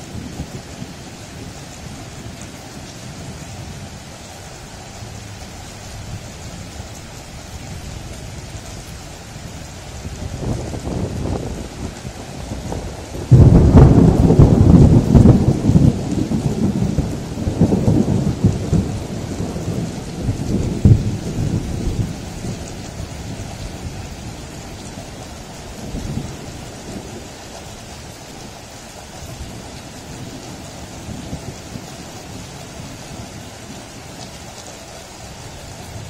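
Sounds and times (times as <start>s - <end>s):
thunder rumbling: 0.0s - 34.0s
steady rain: 0.0s - 36.0s.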